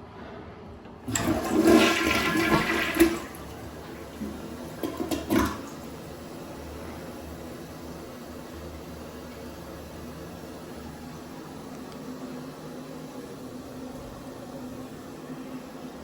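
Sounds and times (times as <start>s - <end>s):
toilet flushing: 1.0s - 16.0s
water running as tank refills: 1.1s - 16.0s.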